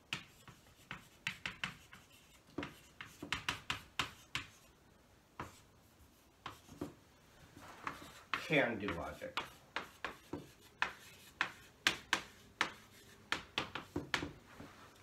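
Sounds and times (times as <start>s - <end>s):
chalk tapping and scraping on chalkboard: 0.0s - 15.0s.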